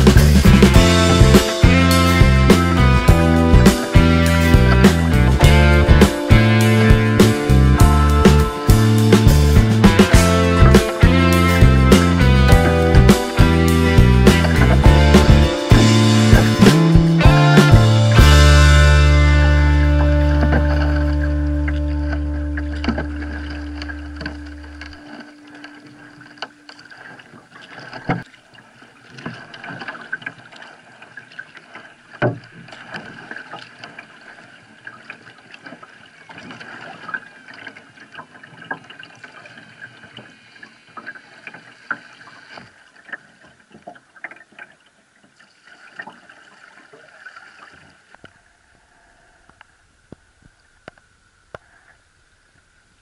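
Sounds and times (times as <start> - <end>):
paddle splashing in water: 0.0 - 52.8.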